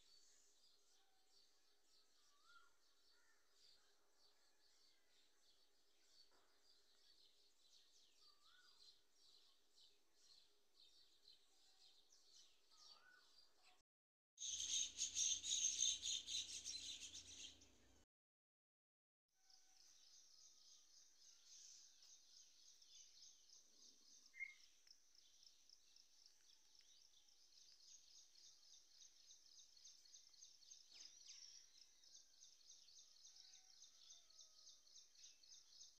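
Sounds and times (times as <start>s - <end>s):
bird chirp: 0.0s - 13.8s, 14.4s - 18.0s, 19.4s - 36.0s.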